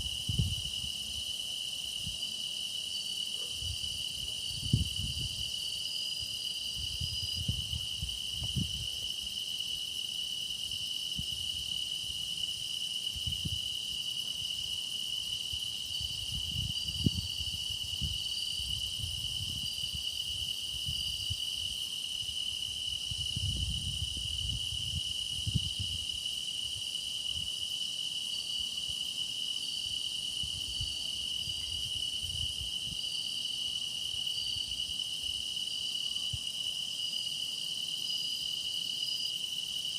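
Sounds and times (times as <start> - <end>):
insect chirps: 0.0 - 39.9
insects trilling: 0.0 - 39.9.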